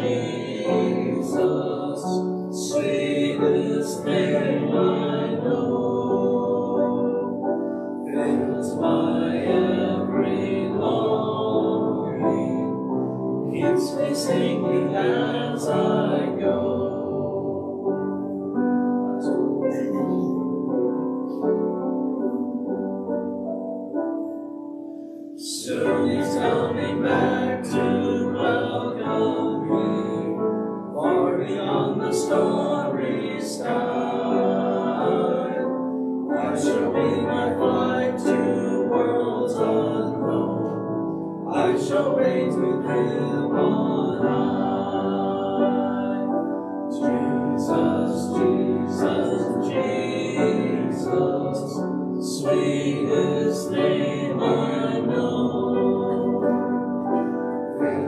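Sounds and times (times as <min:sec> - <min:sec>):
men singing a hymn: 0:00.0 - 0:20.5, 0:25.4 - 0:58.0.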